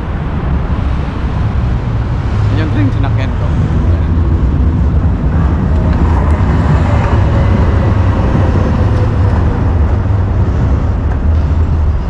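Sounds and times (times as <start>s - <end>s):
tram rumble: 0.0s - 12.0s.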